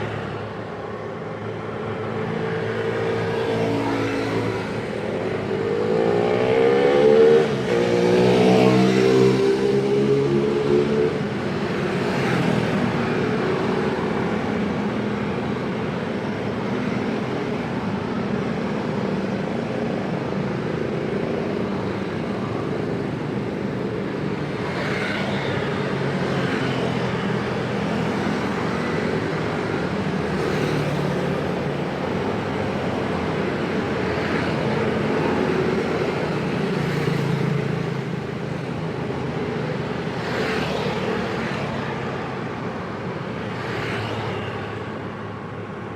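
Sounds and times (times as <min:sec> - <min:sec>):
busy road traffic drone: 0:00.0 - 0:45.9.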